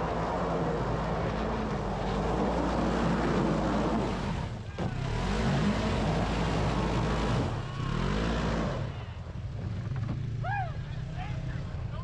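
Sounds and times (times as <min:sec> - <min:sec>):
utility vehicle engine revving: 0:00.0 - 0:10.4.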